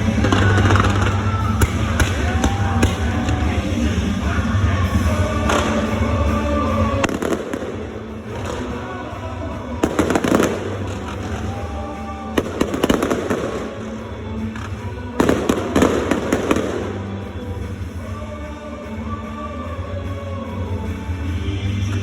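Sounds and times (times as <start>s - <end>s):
fireworks banging and crackling: 0.0s - 18.2s
music: 0.0s - 22.0s.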